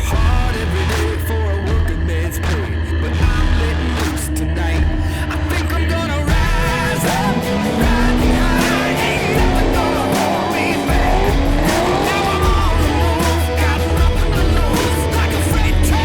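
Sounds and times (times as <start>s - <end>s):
background music: 0.0s - 16.0s
race car engine revving: 0.0s - 16.0s.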